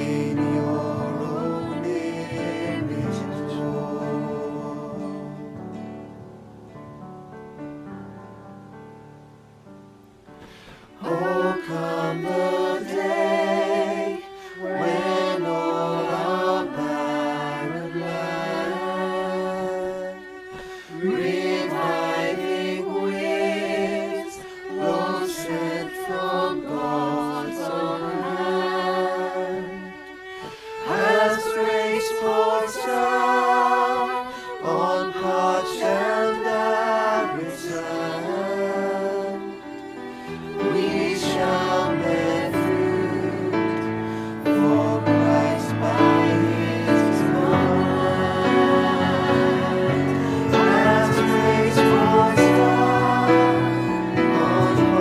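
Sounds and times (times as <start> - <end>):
voices singing with vibrato: 0.0 - 5.6, 10.4 - 55.0.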